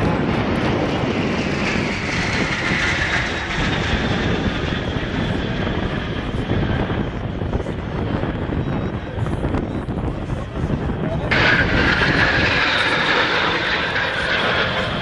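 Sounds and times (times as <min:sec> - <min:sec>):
jets flying past overhead: 0:00.0 - 0:15.0.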